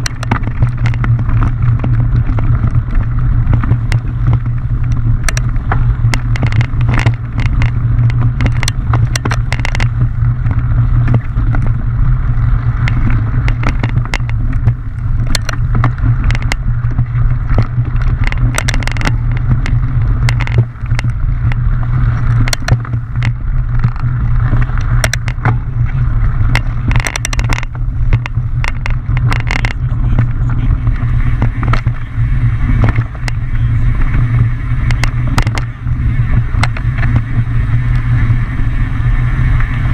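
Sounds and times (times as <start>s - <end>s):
bike rattling over rocks: 0.0s - 39.9s
wind and trail buzz: 0.0s - 39.9s.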